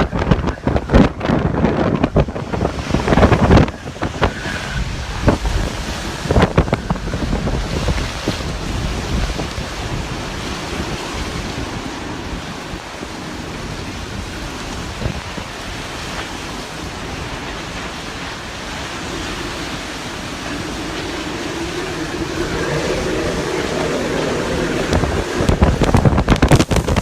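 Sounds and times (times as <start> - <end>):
strong wind buffeting microphone: 0.0 - 27.0.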